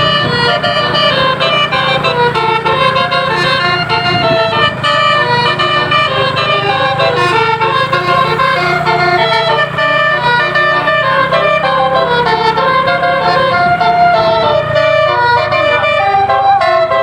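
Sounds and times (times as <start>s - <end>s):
bus multi-note horn melody: 0.0s - 17.0s.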